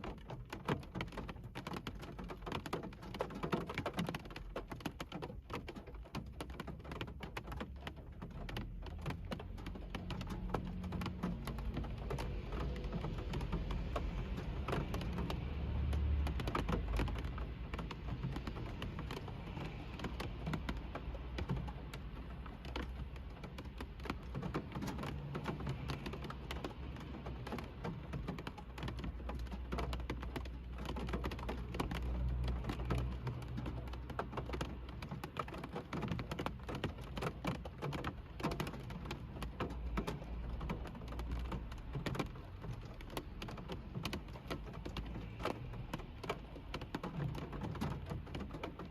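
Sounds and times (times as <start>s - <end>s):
rain pattering on car roof: 0.0s - 48.9s.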